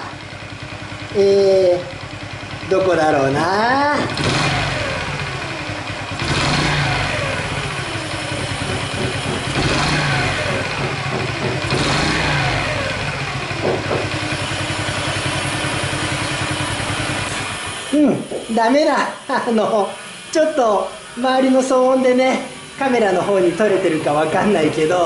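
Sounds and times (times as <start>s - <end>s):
engine rattle: 0.0s - 25.0s
small motorcycle engine revving: 0.0s - 25.0s.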